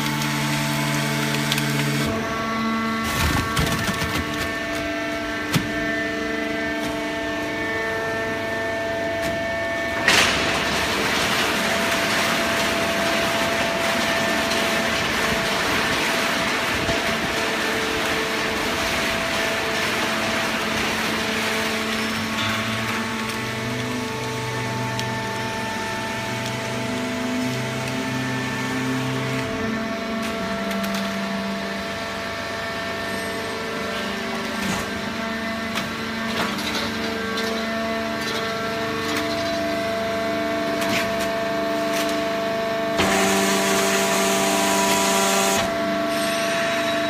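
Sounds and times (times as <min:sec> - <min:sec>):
baler machine hum and whine: 0:00.0 - 0:47.0.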